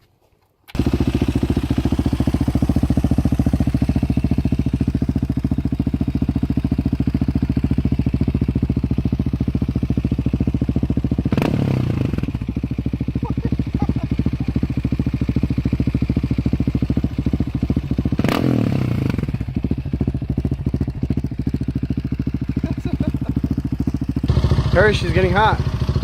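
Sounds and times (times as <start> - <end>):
motorcycle engine idling: 0.7 - 26.0.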